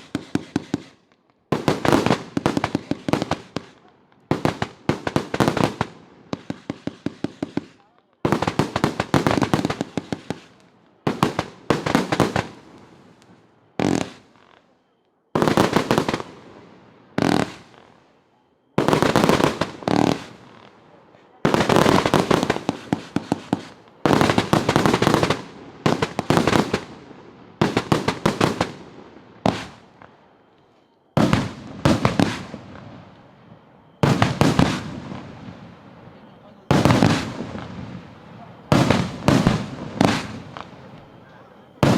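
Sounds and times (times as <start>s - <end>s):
fireworks crackle: 0.0s - 41.9s
fireworks firing in volleys: 0.0s - 41.9s.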